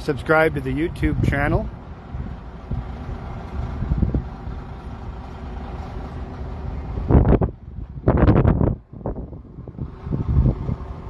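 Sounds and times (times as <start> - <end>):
diesel engines rumbling: 0.0 - 11.0.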